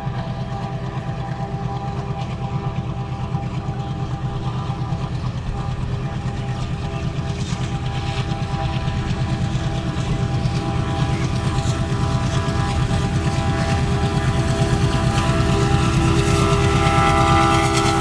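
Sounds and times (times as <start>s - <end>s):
diesel locomotive engine throbbing: 0.0s - 18.0s.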